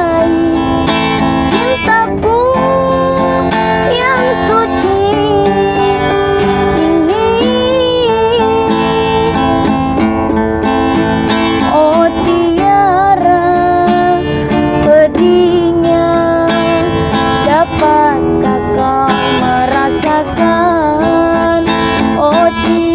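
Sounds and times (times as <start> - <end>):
acoustic guitar strumming: 0.0 - 22.9
melody of bending held notes: 0.0 - 22.9.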